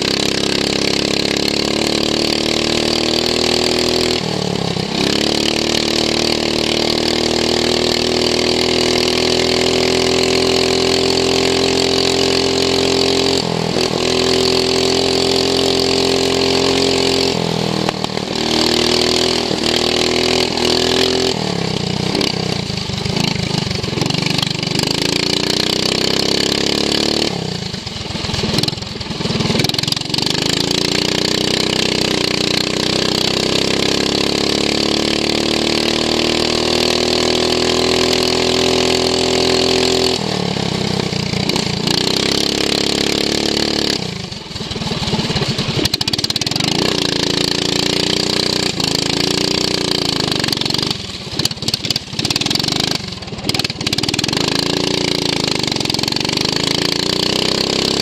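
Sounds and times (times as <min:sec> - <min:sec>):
lawn mower engine revving: 0:00.0 - 0:58.0.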